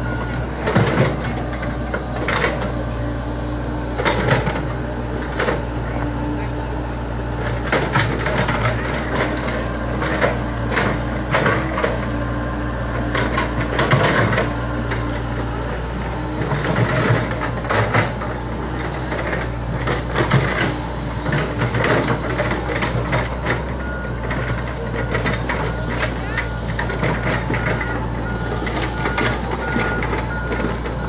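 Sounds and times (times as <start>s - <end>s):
excavator engine running: 0.0s - 31.0s.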